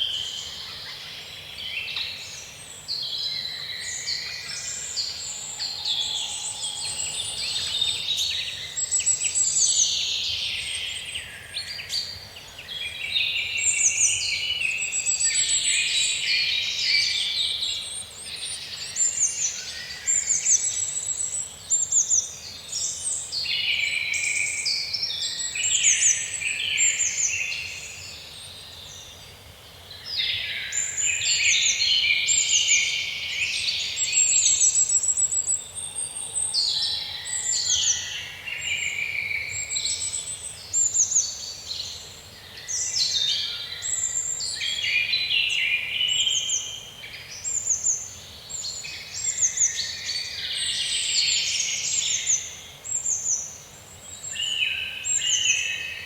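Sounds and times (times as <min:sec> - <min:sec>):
faint background hiss: 0:00.0 - 0:56.0
songbirds singing and chirping: 0:00.0 - 0:56.0.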